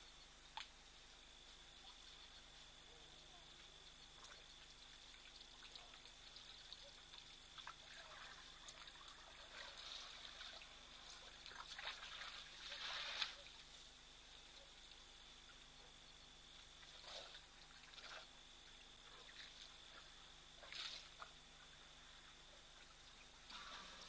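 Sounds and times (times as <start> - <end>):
water splashing and dribbling: 3.4 - 15.7, 16.6 - 24.0.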